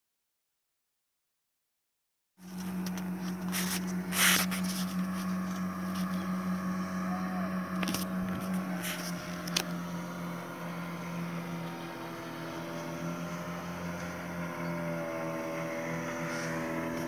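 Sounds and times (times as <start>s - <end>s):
engine running: 2.4s - 17.0s.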